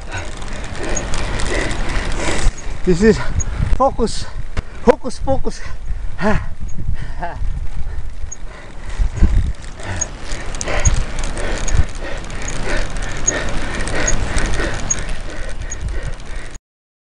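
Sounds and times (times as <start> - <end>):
wind rumbling on microphone: 0.0 - 16.6.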